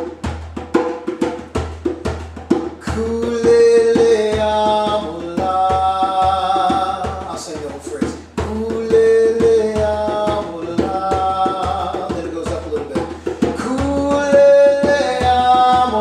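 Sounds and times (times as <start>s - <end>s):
hand drum rhythm: 0.0s - 16.0s.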